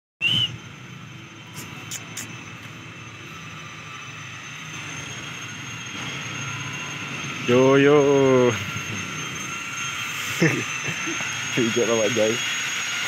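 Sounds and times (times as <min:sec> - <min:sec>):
distant engine drone: 0:00.2 - 0:13.0.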